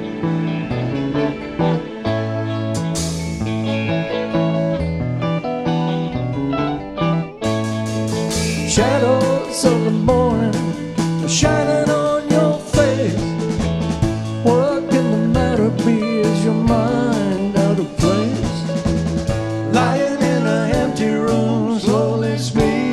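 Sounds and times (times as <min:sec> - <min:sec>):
bending guitar melody: 0:00.0 - 0:22.9
live rock band: 0:00.0 - 0:22.9.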